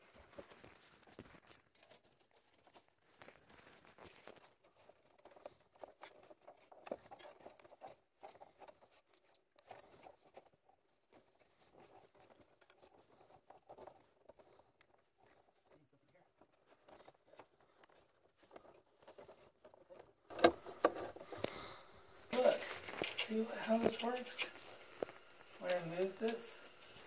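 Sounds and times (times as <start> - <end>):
rustling of wires being handled: 0.0 - 27.0.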